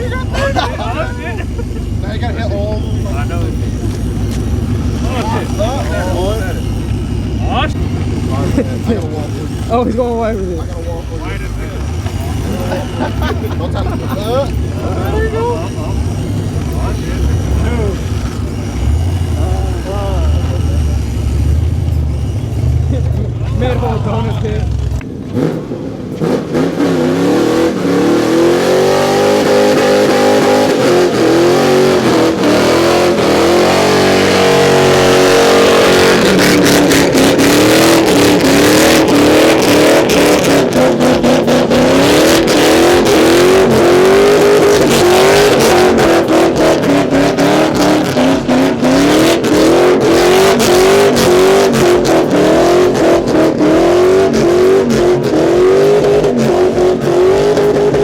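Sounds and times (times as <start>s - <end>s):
car engine revving in surges: 0.0s - 58.0s.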